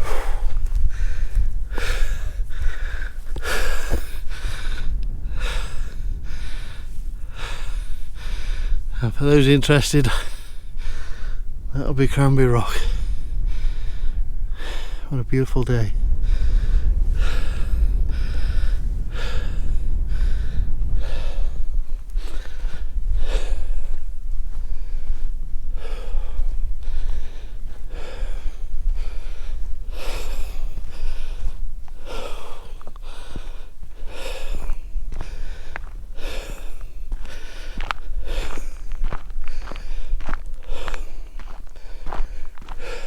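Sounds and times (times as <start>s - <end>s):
man breathing hard: 0.0s - 11.7s, 12.7s - 15.2s, 16.0s - 43.0s
wind on microphone: 0.0s - 43.0s.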